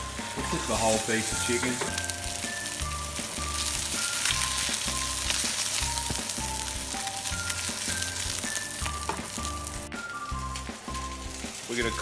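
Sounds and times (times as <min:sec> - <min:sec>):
background music with bass: 0:00.0 - 0:12.0
chicken sizzling in hot oil: 0:00.0 - 0:12.0.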